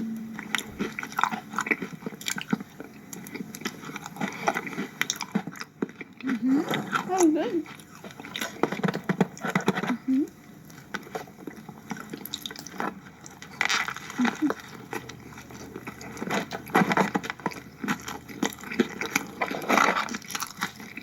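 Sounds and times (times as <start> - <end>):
person chewing with wet smacks: 0.3 - 21.0.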